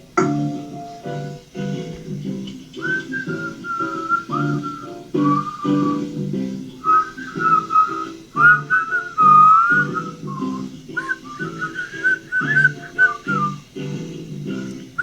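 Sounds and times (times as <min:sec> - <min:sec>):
plucked guitar chords: 0:00.0 - 0:15.0
whistled melody: 0:00.0 - 0:15.0.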